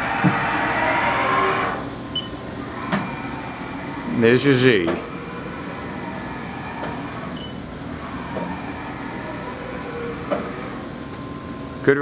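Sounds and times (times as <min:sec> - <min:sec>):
machine hum with thin whine: 0:00.0 - 0:12.0.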